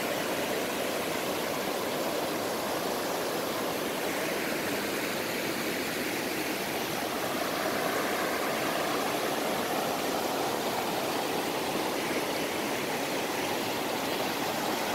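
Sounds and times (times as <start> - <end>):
river rushing over rocks: 0.0 - 14.9.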